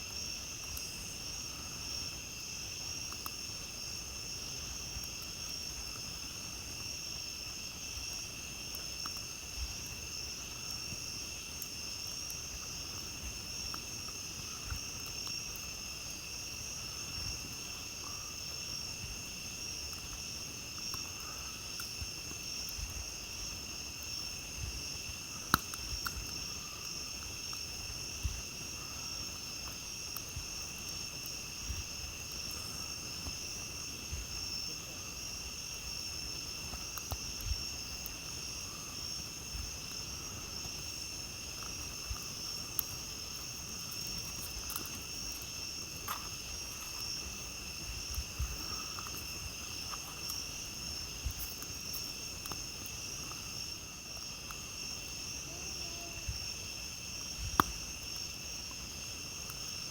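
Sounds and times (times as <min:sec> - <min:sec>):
campfire crackling and popping: 0:00.0 - 0:59.9
crickets and night insects chirping: 0:00.0 - 0:59.9.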